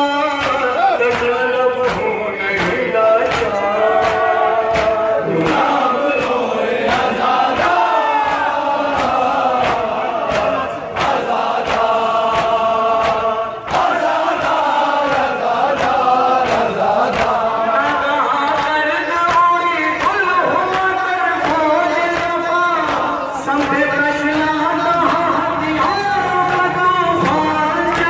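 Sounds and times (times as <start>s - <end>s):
men chanting a lament: 0.0s - 28.0s.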